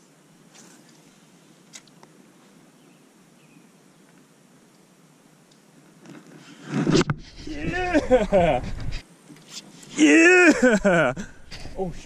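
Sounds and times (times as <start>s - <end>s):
low background hiss: 0.0s - 6.6s, 7.3s - 12.0s.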